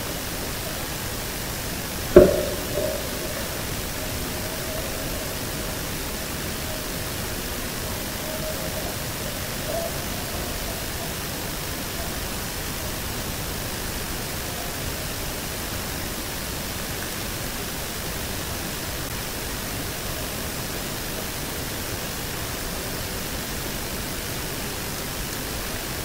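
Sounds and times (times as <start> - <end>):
outdoor field recording hiss: 0.0 - 26.0.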